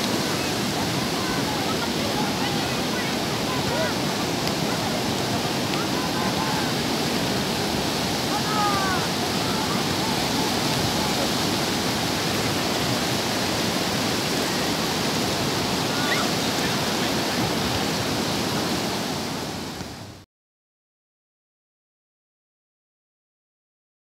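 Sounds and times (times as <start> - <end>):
sea waves breaking: 0.0 - 20.2.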